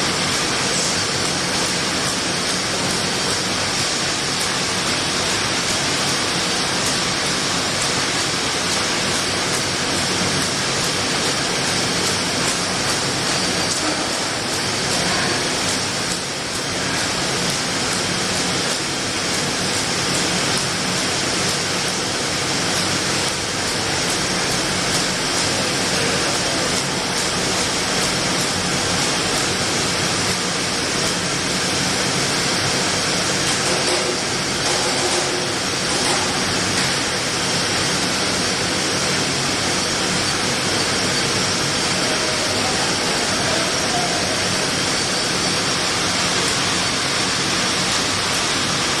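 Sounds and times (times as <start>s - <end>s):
packaging line machinery running: 0.0s - 49.0s.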